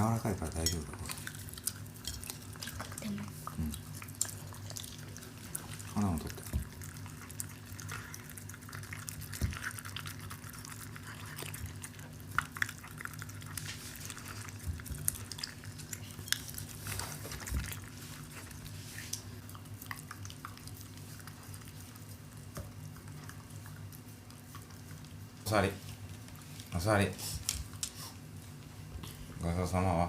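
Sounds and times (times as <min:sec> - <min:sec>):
dog chewing and licking food: 0:00.0 - 0:30.0.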